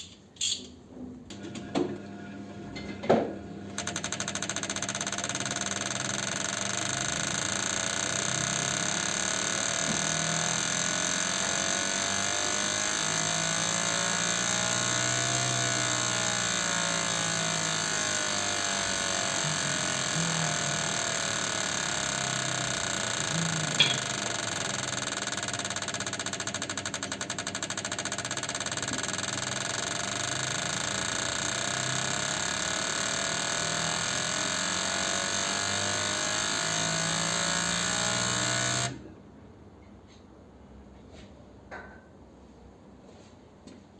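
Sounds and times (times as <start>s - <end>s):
fuel injectors buzzing: 1.3s - 39.1s.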